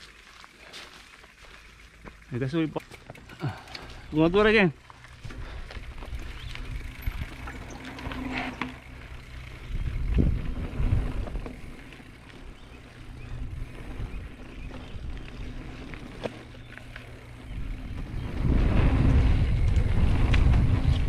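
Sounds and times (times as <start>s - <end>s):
bike clicking and rattling: 0.0s - 21.0s
wind rumbling on microphone: 4.0s - 21.0s.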